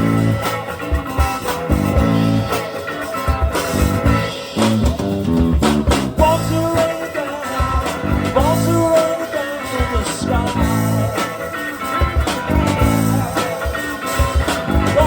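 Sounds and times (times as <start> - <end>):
bass guitar: 0.0 - 15.0
drum kit: 0.0 - 15.0
guitar: 0.0 - 15.0.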